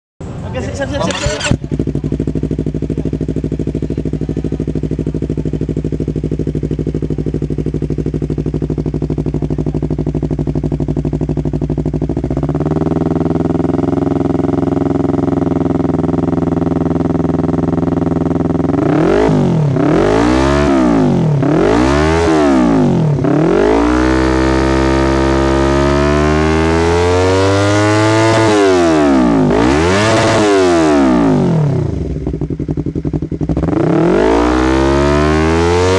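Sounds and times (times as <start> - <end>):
motorcycle engine revving: 0.3 - 35.9.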